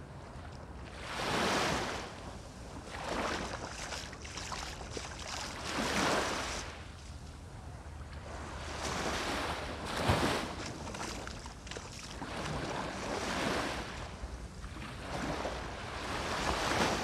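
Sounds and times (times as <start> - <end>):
waves washing onto sand: 0.9 - 6.8, 8.2 - 14.2, 14.9 - 17.0.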